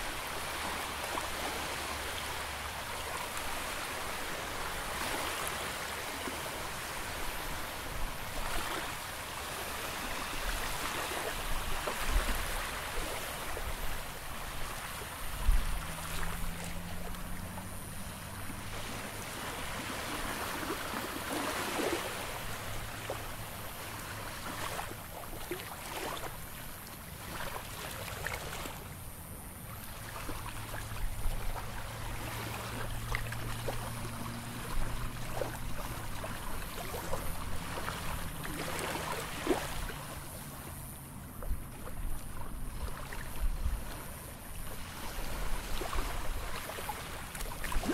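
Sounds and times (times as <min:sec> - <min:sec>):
small waves lapping on shore: 0:00.0 - 0:47.9.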